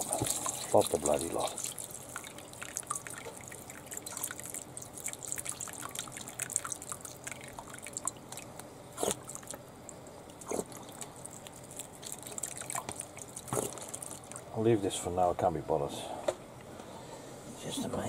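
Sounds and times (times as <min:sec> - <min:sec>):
water trickling and dripping: 0:00.0 - 0:14.6.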